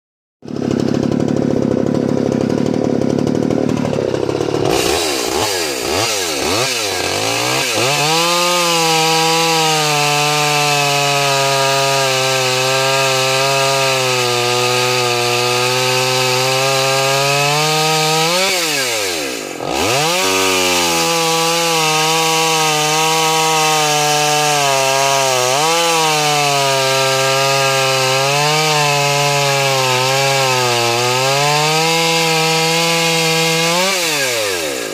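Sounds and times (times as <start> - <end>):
chainsaw cutting log: 0.4 - 34.9.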